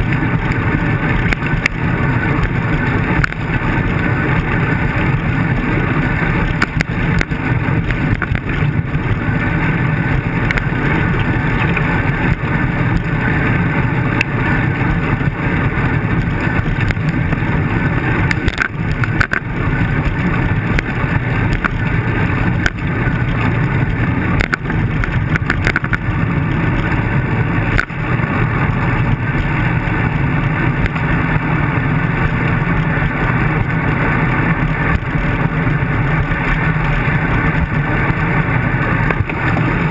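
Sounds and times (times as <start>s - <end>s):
wind and road vibration rumble: 0.0s - 39.9s.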